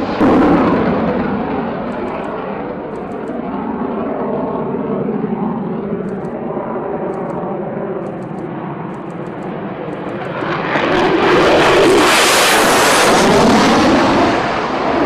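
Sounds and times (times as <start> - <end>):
jet engine droning: 0.0 - 15.0.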